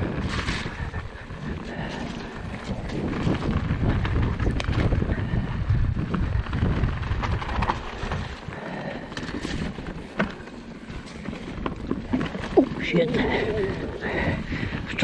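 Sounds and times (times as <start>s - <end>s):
bike rattling over roots: 0.0s - 15.0s
wind buffeting microphone: 0.0s - 15.0s.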